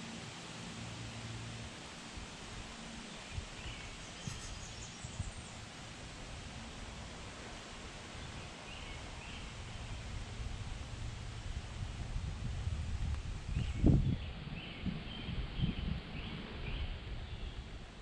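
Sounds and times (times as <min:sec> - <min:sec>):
low rumble and hiss: 0:00.0 - 0:18.0.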